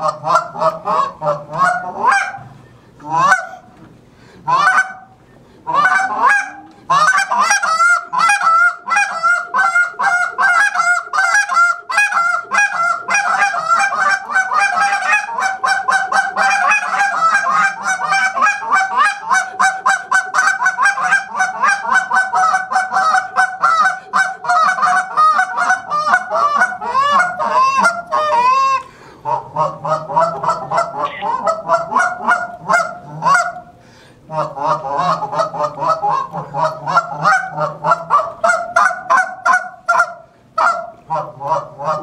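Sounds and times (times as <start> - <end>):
goose call honks and clucks: 0.0 - 3.8, 4.4 - 42.0.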